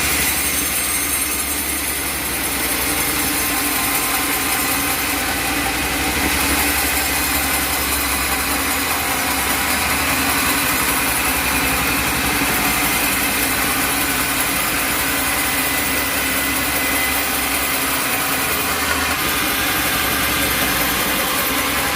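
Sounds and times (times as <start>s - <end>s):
sawmill saw running: 0.0s - 21.9s.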